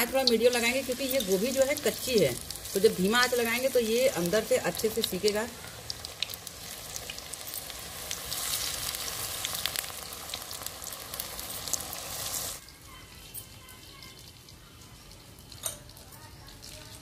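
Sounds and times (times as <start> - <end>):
batter deep-frying in oil: 0.0 - 17.0.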